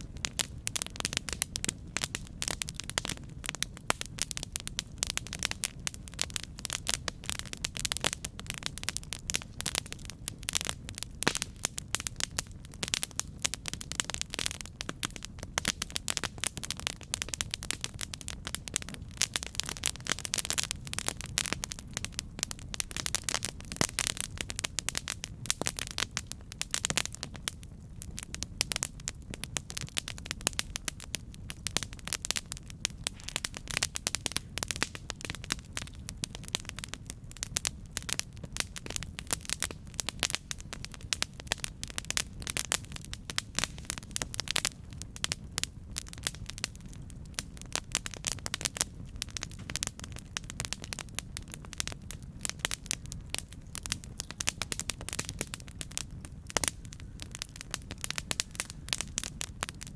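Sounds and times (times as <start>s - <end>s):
campfire crackling and popping: 0.0s - 59.9s
low rumble of burning fire: 0.0s - 59.9s.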